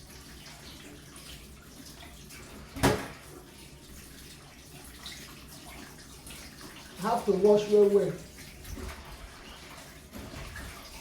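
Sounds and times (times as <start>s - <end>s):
faint water splashing: 0.2s - 11.0s.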